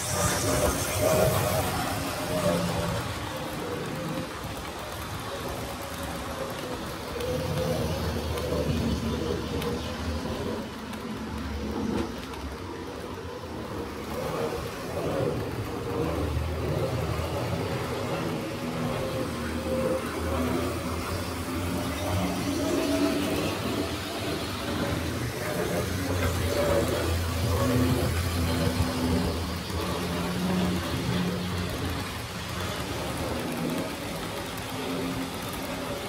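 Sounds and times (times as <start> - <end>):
model train wheels rumbling on track: 0.0 - 36.0
small electric motors whining: 0.0 - 36.0.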